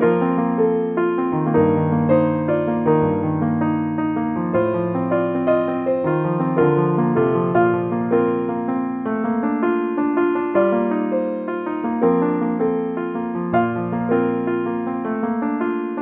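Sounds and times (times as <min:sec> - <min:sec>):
piano melody with chords: 0:00.0 - 0:16.0.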